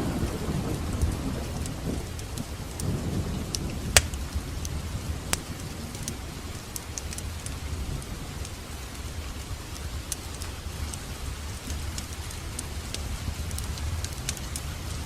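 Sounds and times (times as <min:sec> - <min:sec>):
fire crackles and pops: 0:00.0 - 0:15.0
wood fire low roar: 0:00.0 - 0:15.0.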